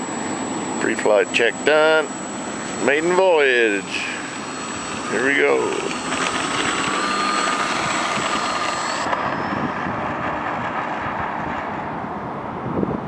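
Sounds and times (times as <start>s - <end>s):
model airplane motor whine: 0.0s - 12.0s.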